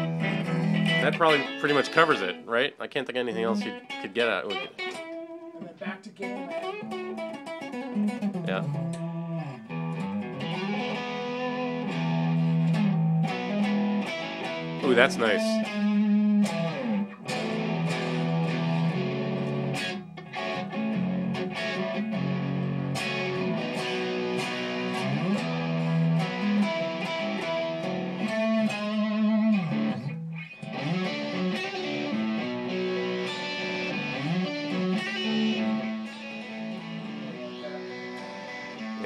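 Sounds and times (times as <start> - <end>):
electric guitar through amp: 0.0 - 2.5, 3.2 - 39.0.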